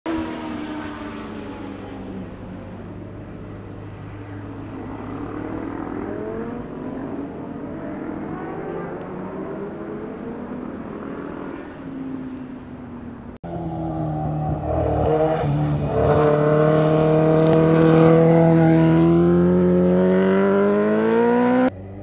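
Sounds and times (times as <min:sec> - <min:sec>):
motorcycle engines accelerating: 0:00.1 - 0:22.0.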